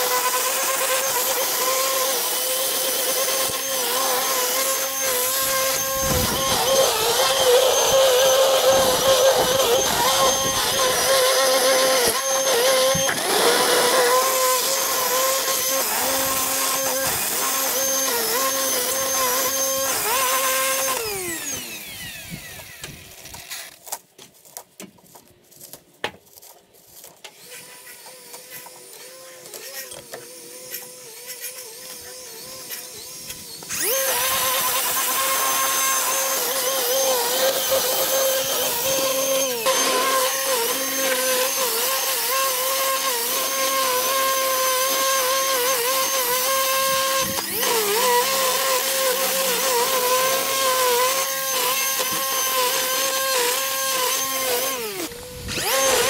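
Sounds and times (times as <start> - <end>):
electric motor whining: 0.0 - 23.8, 27.3 - 56.0.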